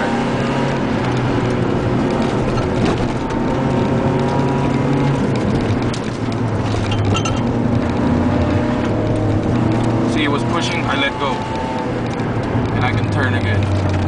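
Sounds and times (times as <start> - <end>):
car engine under throttle: 0.0 - 14.0.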